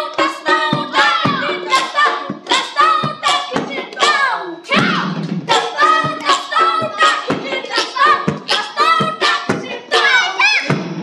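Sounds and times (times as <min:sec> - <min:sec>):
children calling out and chanting: 0:01.0 - 0:10.7.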